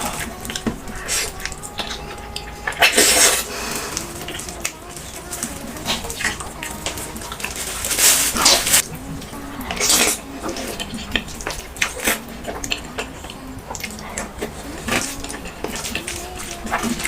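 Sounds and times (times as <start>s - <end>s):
small clicks and crackles: 0.0s - 17.0s.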